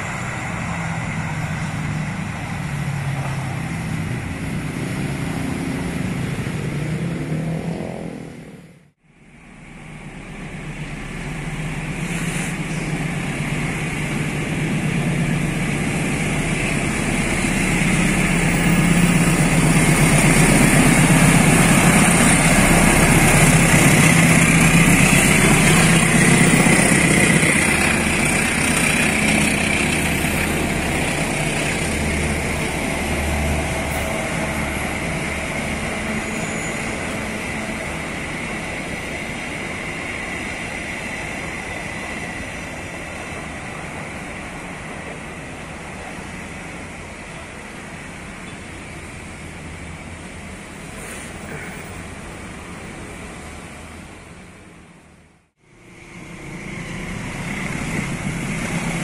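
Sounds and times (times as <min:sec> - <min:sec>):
diesel locomotive engine: 0:00.0 - 0:59.0
train coaches rumbling on rails: 0:00.0 - 0:59.0.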